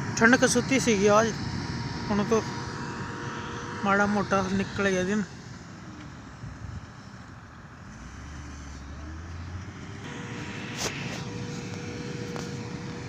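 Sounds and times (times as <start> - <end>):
diesel engines droning: 0.0 - 13.0
thin steady whine: 0.0 - 13.0.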